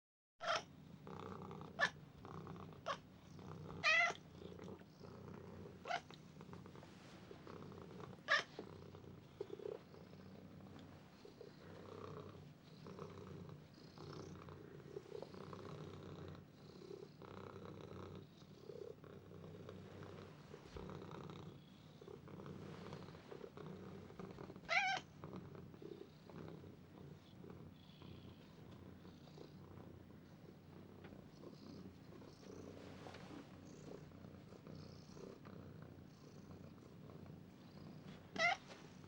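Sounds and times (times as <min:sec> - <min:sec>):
cat purring: 0:00.4 - 0:39.0.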